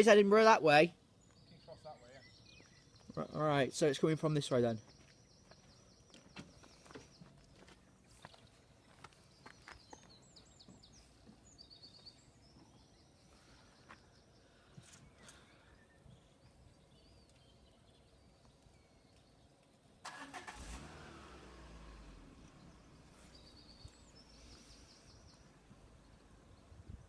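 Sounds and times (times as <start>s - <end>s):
birds chirping and trilling: 0.0s - 20.6s, 22.3s - 27.0s.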